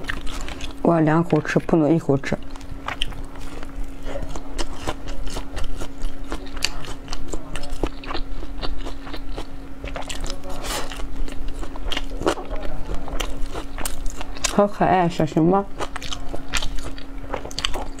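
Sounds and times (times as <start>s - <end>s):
person chewing food: 0.0s - 14.7s, 15.6s - 18.0s.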